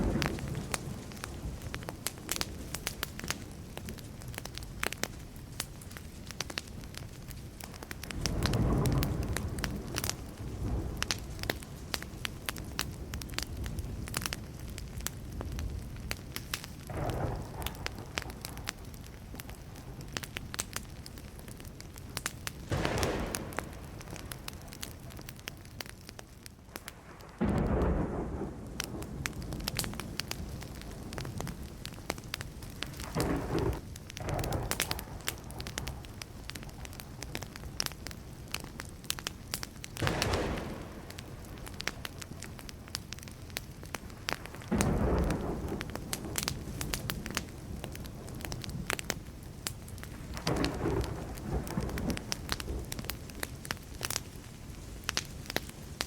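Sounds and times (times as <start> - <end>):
thunder rumbling: 0.0 - 4.7, 7.6 - 20.2, 22.5 - 38.8, 39.8 - 54.8
burning wood crackling: 0.0 - 56.0.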